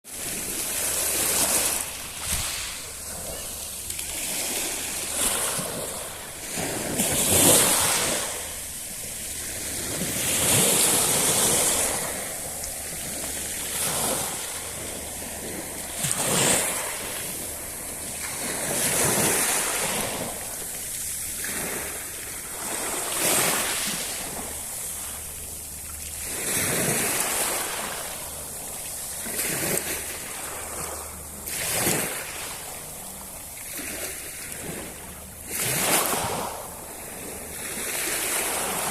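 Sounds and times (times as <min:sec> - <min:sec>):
sea waves breaking on shore: 0:00.1 - 0:38.9.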